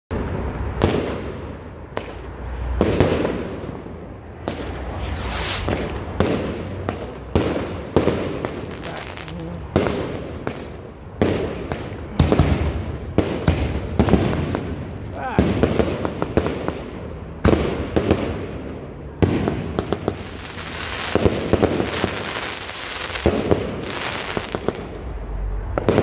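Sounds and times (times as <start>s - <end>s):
fireworks bangs with echo: 0.2s - 25.1s, 25.7s - 26.0s.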